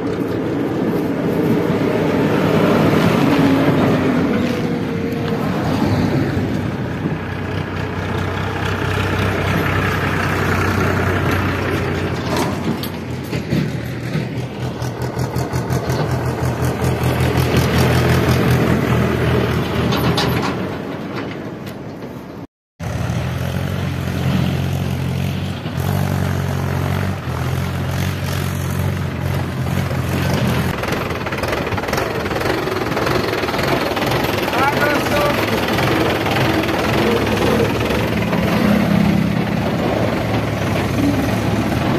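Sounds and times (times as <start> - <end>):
tractor diesel engine running: 0.0 - 41.9
tractors driving past: 0.0 - 41.9.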